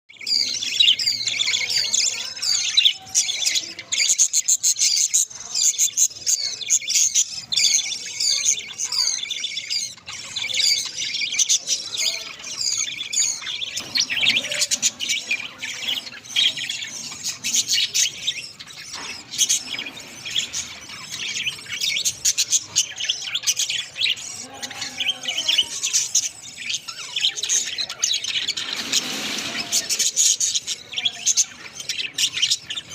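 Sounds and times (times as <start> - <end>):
budgerigars chirping: 0.1 - 32.9.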